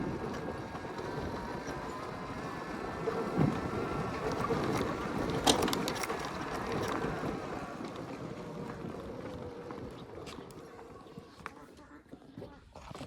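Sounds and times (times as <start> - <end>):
wind rushing over microphone: 0.0 - 11.1.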